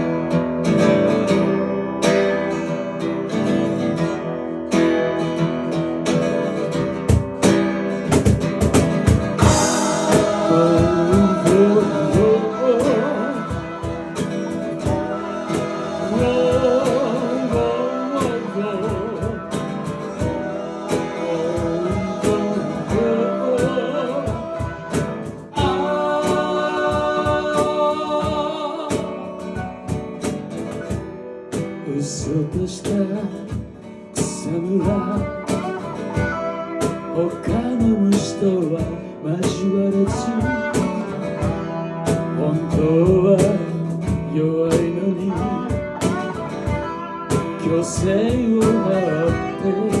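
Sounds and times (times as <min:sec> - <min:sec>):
guitar: 0:00.0 - 0:50.0
drum beat: 0:06.0 - 0:50.0.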